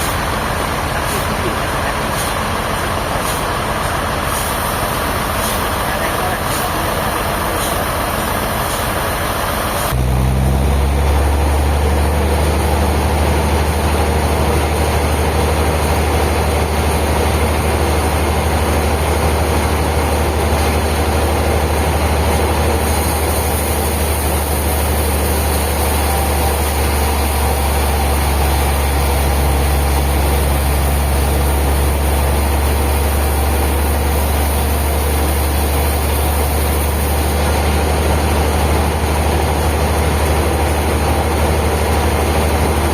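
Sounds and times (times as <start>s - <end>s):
heavy machine engine humming: 0.0s - 42.9s.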